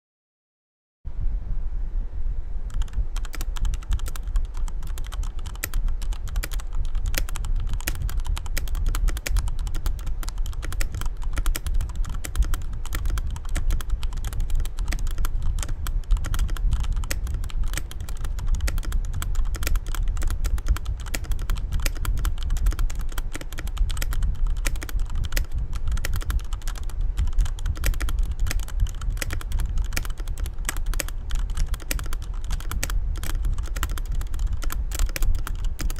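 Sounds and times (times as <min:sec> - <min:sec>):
fast mechanical keyboard typing: 0:02.7 - 0:35.9.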